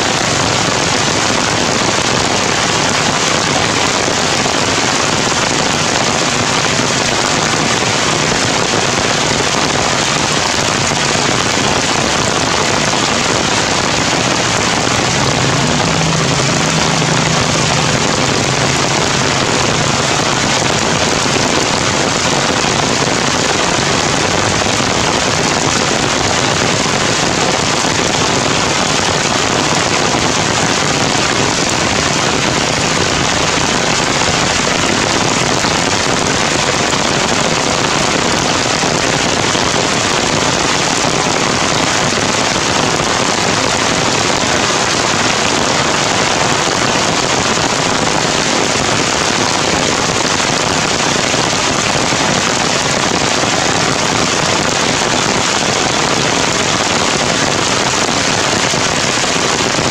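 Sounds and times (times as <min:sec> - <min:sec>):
heavy rain through trees: 0:00.0 - 0:59.9.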